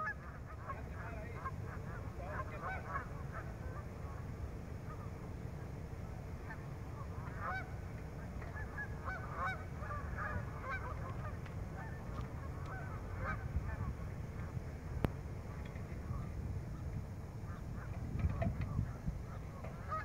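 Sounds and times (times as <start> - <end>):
geese honking: 0.0 - 14.7, 17.4 - 20.0
low background noise: 0.0 - 20.0.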